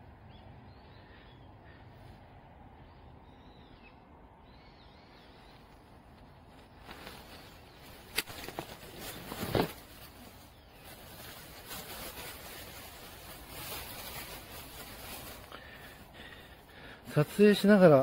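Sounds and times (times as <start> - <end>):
leaves rustling: 2.0 - 18.0.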